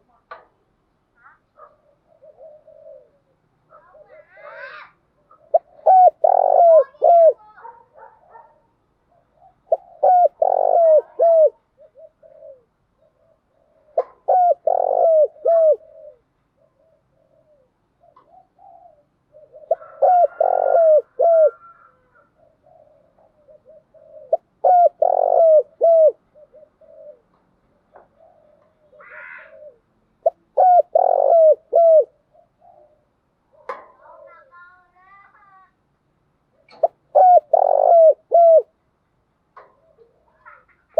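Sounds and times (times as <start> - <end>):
dove cooing: 1.2 - 35.6, 36.5 - 38.8, 39.6 - 40.9.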